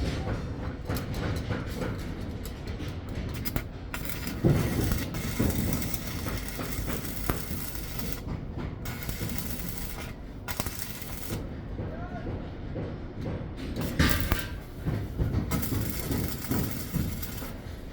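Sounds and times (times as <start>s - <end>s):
knocks and clanks: 0.0s - 17.9s
mechanical rumble: 2.2s - 12.0s, 12.8s - 17.9s.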